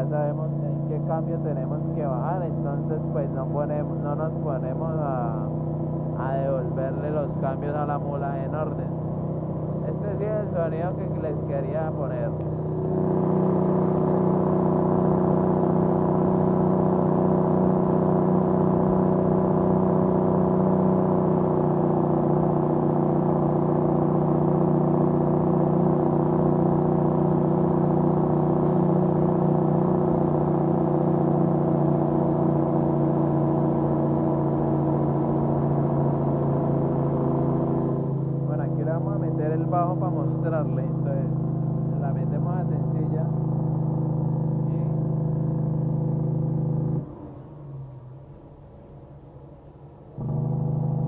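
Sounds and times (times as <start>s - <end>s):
truck diesel engine braking: 0.0s - 51.0s.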